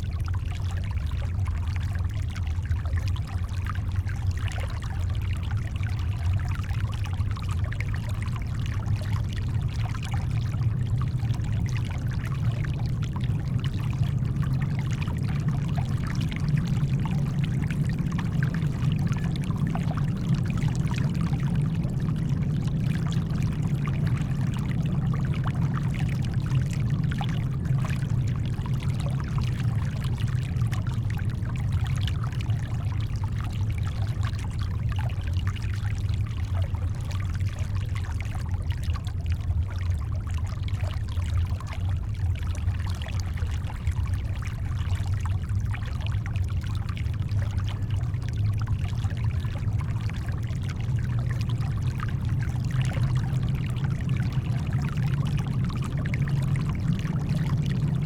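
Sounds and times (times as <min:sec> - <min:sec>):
deep brown noise: 0:00.0 - 0:58.0.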